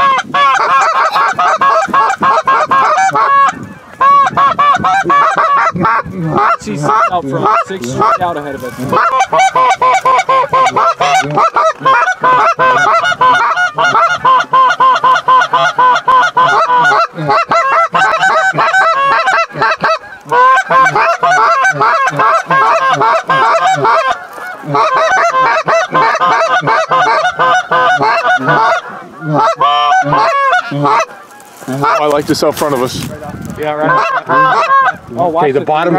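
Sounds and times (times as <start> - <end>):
goose honking: 0.0 - 35.9.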